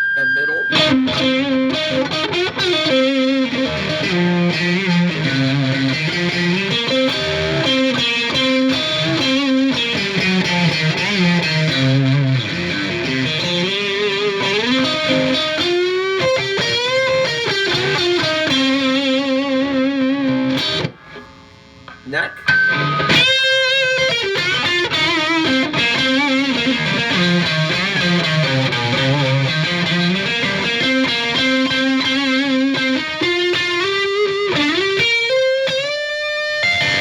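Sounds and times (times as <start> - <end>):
electric guitar lead with string bends: 0.0 - 37.0.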